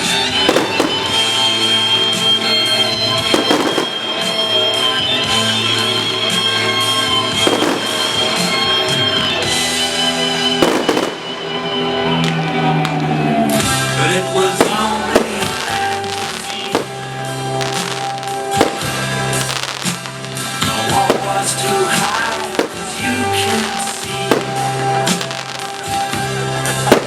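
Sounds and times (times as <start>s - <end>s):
fireworks bangs: 0.0s - 27.0s
loud music: 0.0s - 27.0s.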